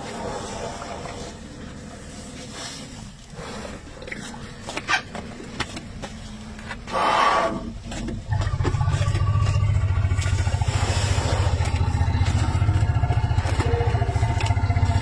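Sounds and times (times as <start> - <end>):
elephants rumbling: 0.0 - 15.0.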